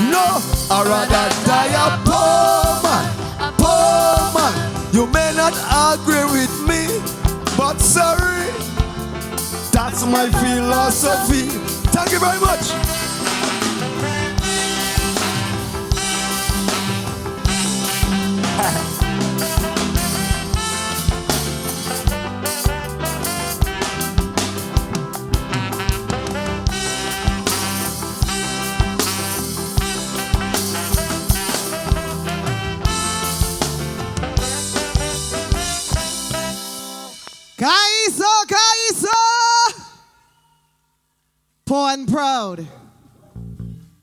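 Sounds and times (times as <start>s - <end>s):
steady drum beat: 0.0s - 37.9s
calypso band playing: 0.0s - 39.7s.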